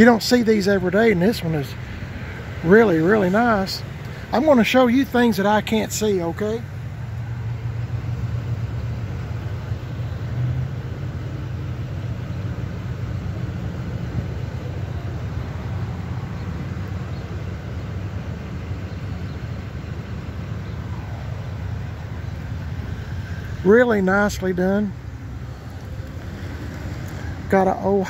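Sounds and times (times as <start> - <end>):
motor vehicles rumbling: 0.0 - 28.0.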